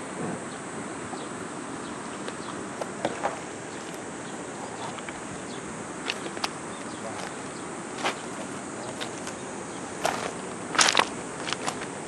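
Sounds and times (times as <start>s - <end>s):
outdoor background noise: 0.0s - 12.0s
river stones clicking underfoot: 2.2s - 12.0s.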